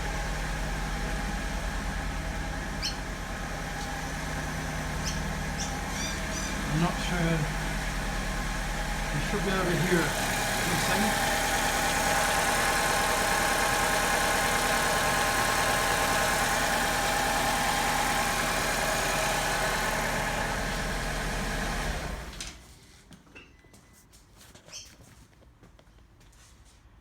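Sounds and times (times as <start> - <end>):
car engine idling: 0.0 - 22.4.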